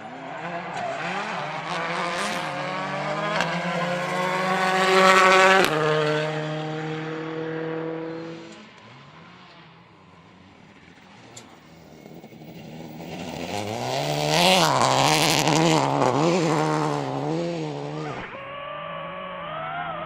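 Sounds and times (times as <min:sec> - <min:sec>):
another car engine: 0:00.0 - 0:20.0
gravel or tyre noise: 0:00.0 - 0:20.0
rally car passing at speed: 0:00.0 - 0:20.0.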